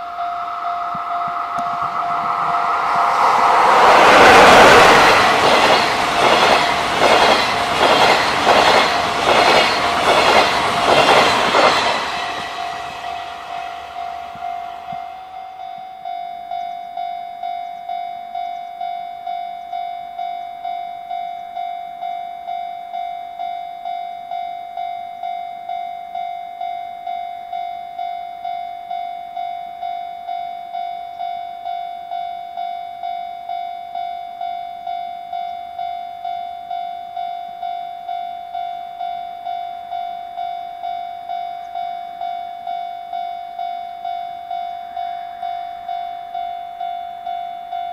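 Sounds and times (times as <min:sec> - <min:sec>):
level-crossing warning bell: 0:00.0 - 0:47.9.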